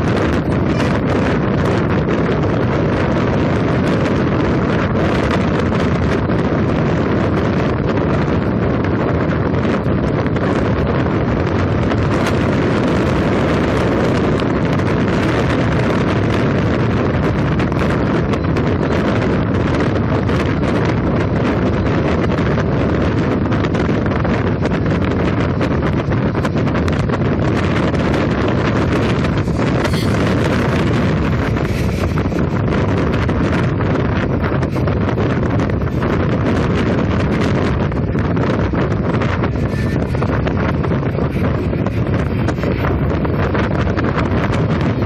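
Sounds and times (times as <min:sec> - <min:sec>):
road and engine noise: 0:00.0 - 0:45.0
wind rushing over microphone: 0:00.0 - 0:45.0.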